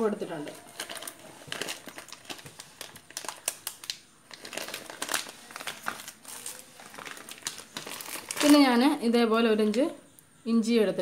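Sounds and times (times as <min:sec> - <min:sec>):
plastic packet crinkling: 0:00.0 - 0:08.9.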